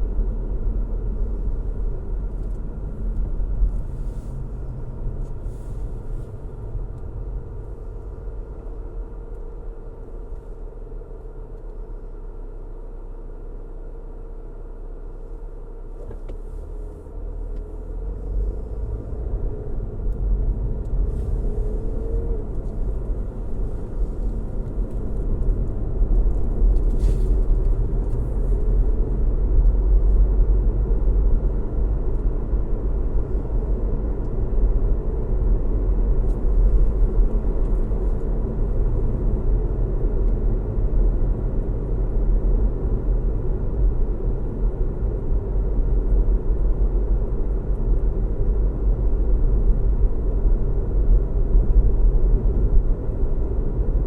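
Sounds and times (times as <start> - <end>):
tyre road noise: 0.0 - 12.6, 15.0 - 54.0
car engine rumble: 0.0 - 54.0.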